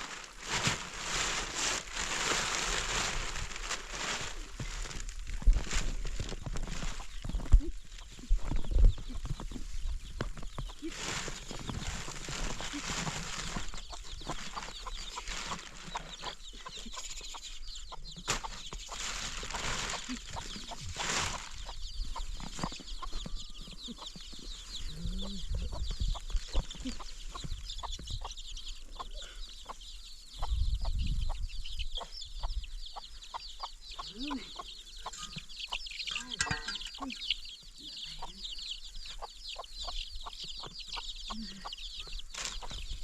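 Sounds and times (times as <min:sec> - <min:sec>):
chickens clucking and chirping: 0:00.0 - 0:43.0.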